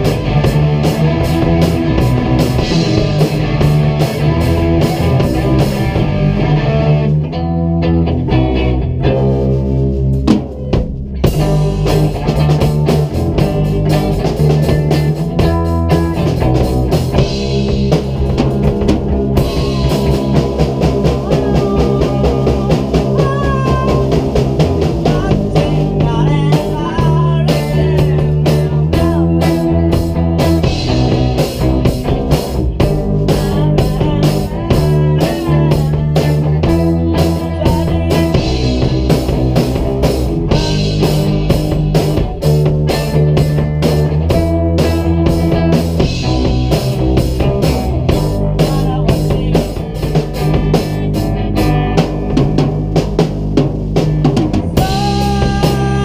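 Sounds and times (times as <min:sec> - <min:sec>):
drum kit and cymbals: 0:00.0 - 0:07.2, 0:09.1 - 0:56.0
electric bass: 0:00.0 - 0:56.0
electric guitar bending notes: 0:00.0 - 0:56.0.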